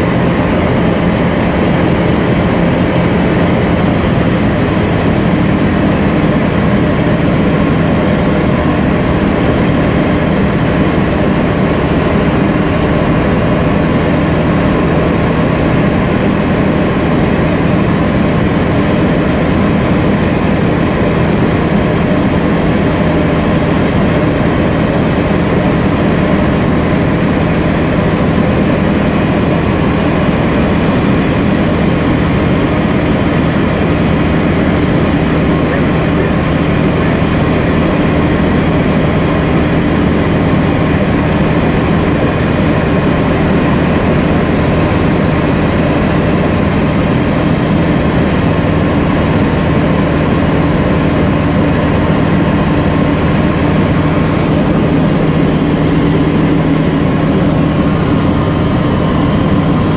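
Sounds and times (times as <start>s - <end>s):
light aircraft engine drone in cabin: 0.0s - 59.9s.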